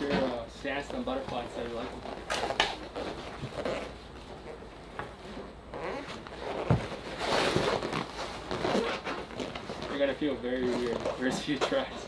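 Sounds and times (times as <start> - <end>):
leg pads rustling and scuffing: 0.0 - 12.0.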